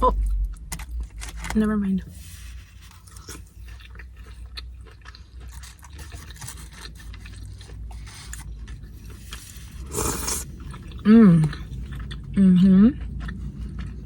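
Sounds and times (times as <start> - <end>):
chewing crunchy chips: 0.0 - 1.6, 2.4 - 14.0.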